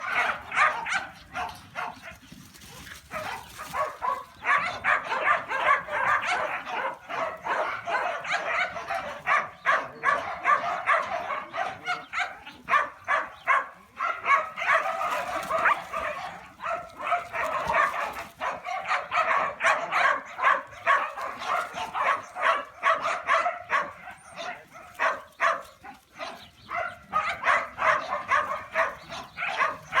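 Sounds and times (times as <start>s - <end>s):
dogs barking: 0.0s - 30.0s.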